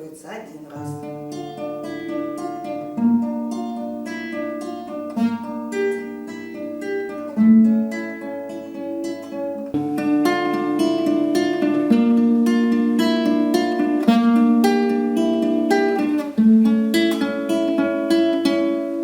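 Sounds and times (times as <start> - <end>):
fingerpicked guitar arpeggio: 0.7 - 19.0.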